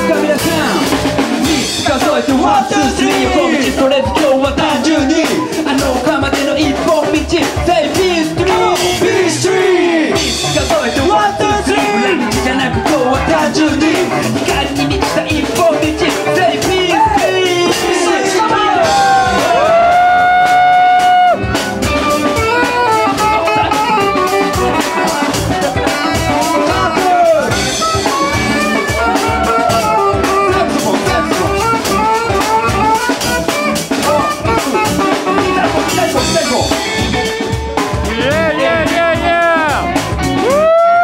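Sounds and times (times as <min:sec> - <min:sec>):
live band playing upbeat tune: 0:00.0 - 0:41.0.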